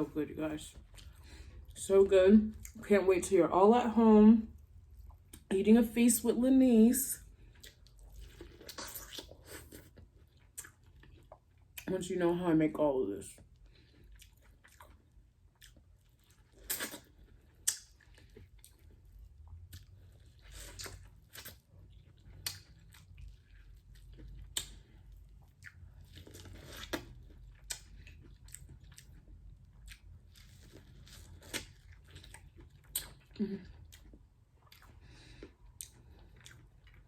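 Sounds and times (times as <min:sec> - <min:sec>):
person chewing food: 0:00.7 - 0:01.8, 0:04.6 - 0:05.5, 0:07.2 - 0:11.9, 0:13.4 - 0:37.0.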